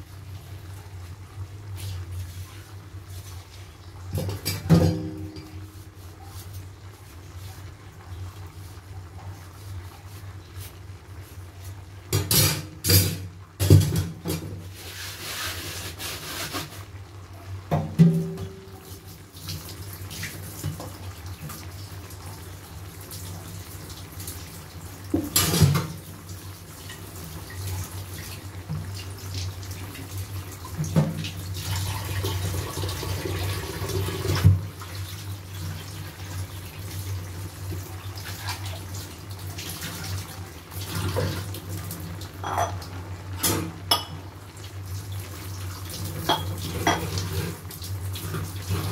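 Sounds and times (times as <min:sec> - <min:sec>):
sauce simmering in a wok: 0:00.0 - 0:48.9.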